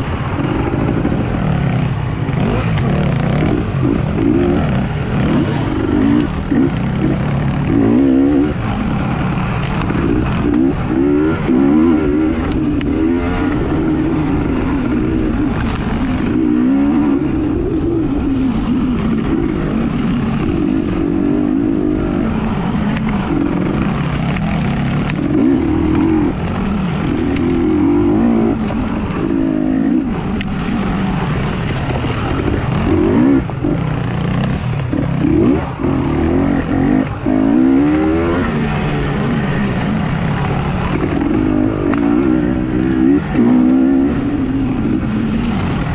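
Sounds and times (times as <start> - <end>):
racing engines revving: 0.0 - 45.9.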